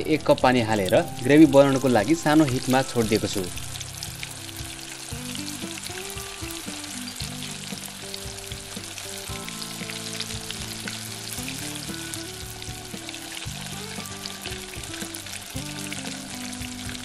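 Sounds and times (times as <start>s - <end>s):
gravy sizzling and bubbling in a pan: 0.0s - 17.0s
soft background music: 0.0s - 17.0s.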